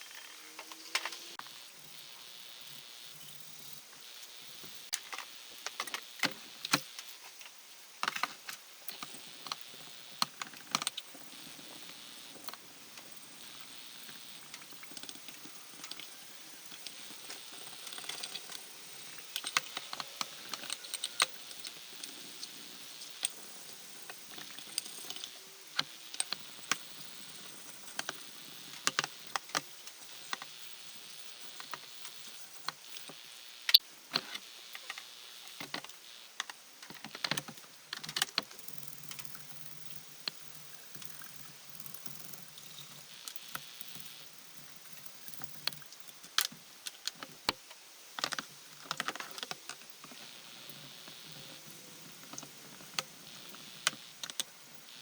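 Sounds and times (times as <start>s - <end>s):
faint steady hiss: 0.0s - 55.0s.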